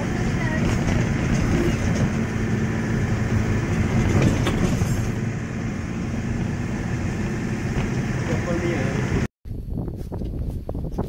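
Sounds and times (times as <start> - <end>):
vehicle rumble on wet road: 0.0 - 9.3.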